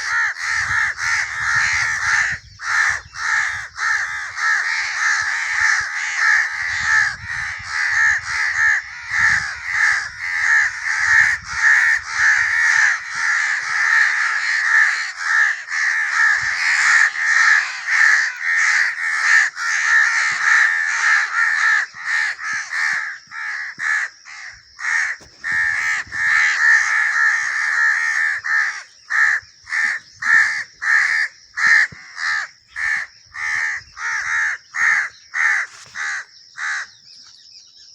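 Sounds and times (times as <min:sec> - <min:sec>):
crows cawing: 0:00.0 - 0:37.0.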